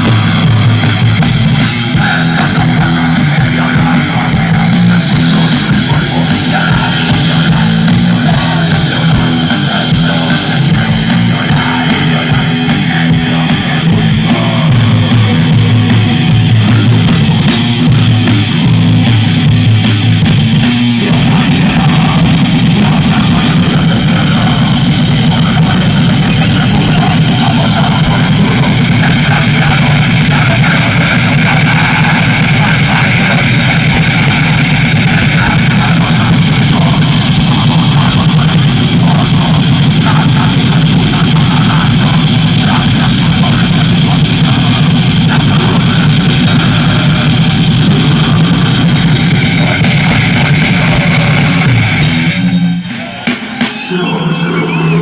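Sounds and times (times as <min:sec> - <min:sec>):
bass guitar: 0:00.0 - 0:55.0
distorted electric guitars: 0:00.0 - 0:55.0
drum kit: 0:00.0 - 0:55.0.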